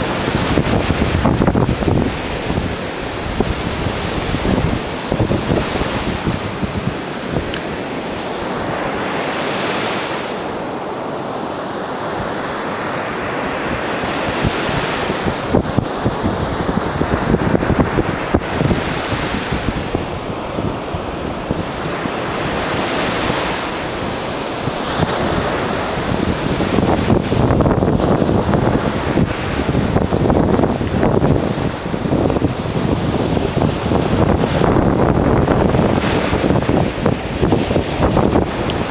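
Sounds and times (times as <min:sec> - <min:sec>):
wind buffeting microphone: 0:00.0 - 0:09.6, 0:13.2 - 0:38.9
ocean surf breaking: 0:00.0 - 0:38.9.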